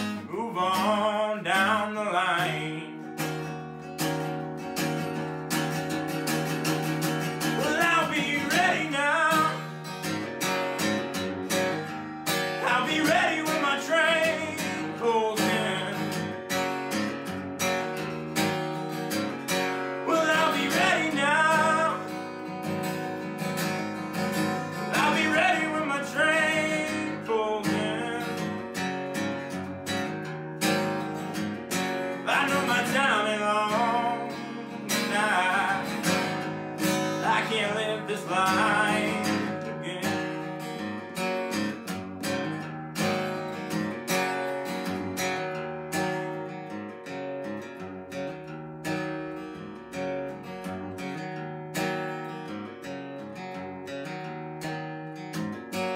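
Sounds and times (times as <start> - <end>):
acoustic guitar blues: 0.0 - 55.9.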